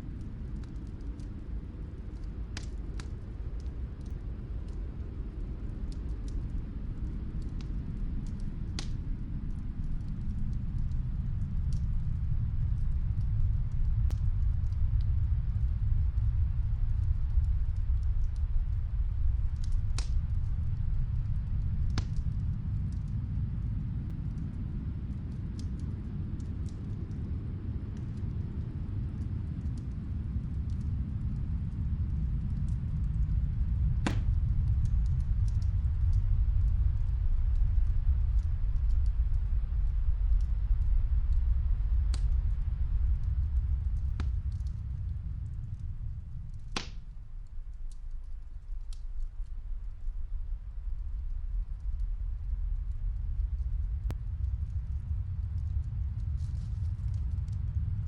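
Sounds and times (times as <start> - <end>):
fireplace crackles: 0.0 - 58.0
wind rumbling: 0.0 - 58.0.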